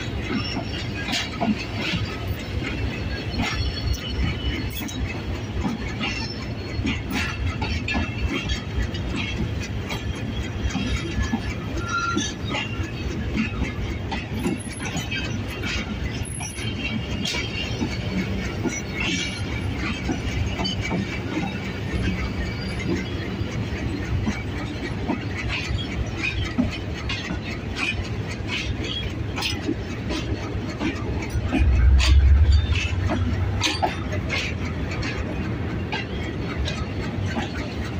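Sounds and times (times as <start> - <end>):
train wheel squeals: 0.0 - 37.9
train wheels rumbling on rails: 0.0 - 37.9
wheels clacking over rail joints: 0.0 - 37.9.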